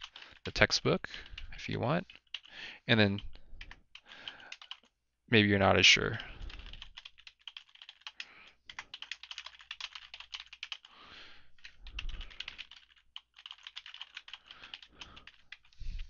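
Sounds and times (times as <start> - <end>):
computer keyboard typing: 0.0 - 4.9, 6.1 - 10.9, 11.6 - 15.8.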